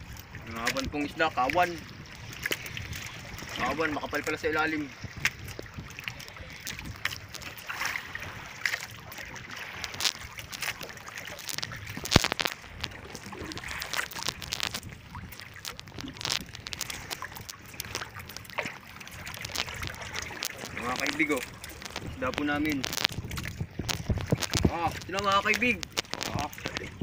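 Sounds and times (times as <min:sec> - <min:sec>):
water sloshing against boat hull: 0:00.0 - 0:27.0.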